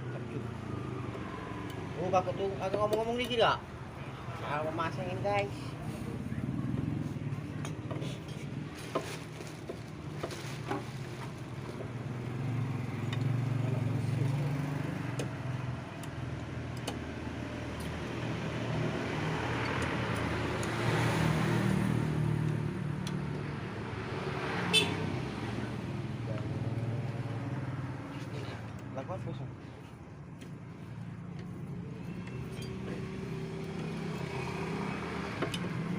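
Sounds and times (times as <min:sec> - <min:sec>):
road traffic: 0:00.0 - 0:35.9
vehicle passing: 0:03.4 - 0:35.9.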